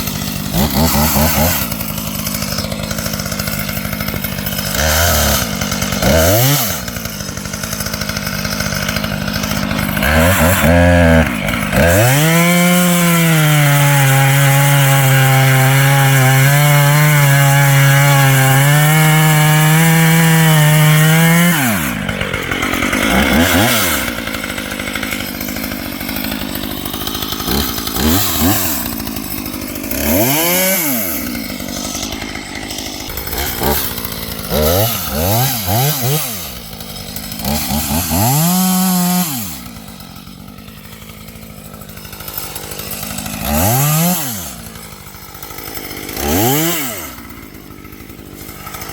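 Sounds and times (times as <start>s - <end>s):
chainsaw cutting wood: 0.0s - 48.9s
chainsaw engine revving: 0.0s - 48.9s.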